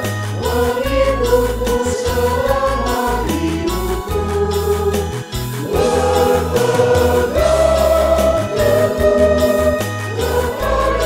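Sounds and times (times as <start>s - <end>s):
choir singing a hymn: 0.2s - 11.0s.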